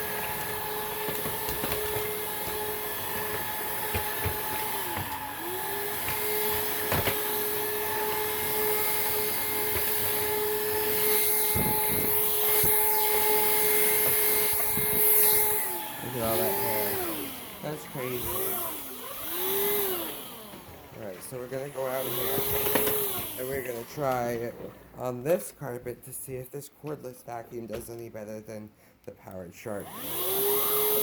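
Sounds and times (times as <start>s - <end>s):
vacuum cleaner motor whine: 0.0s - 24.8s, 29.8s - 31.0s.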